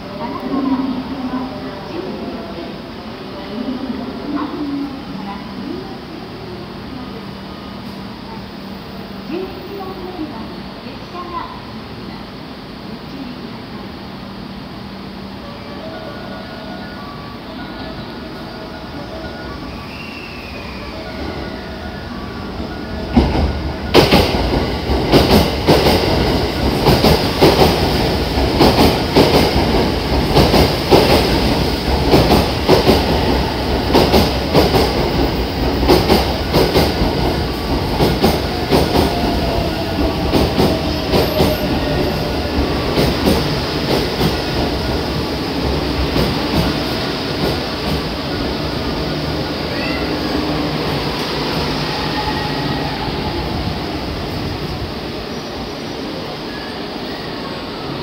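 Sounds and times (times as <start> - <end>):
faint falling train whine: 0.0 - 58.0.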